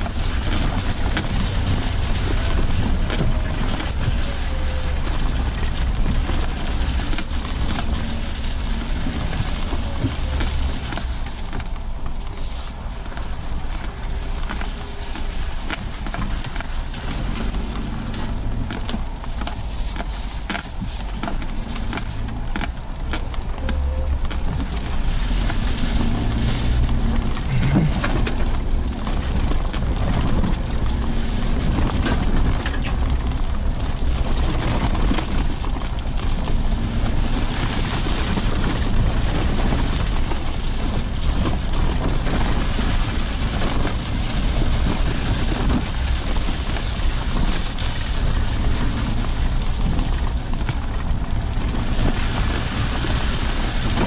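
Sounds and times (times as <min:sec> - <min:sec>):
car engine running: 0:00.0 - 0:54.0
knocks over bumps: 0:00.0 - 0:54.0
tyre and suspension rumble: 0:00.0 - 0:54.0.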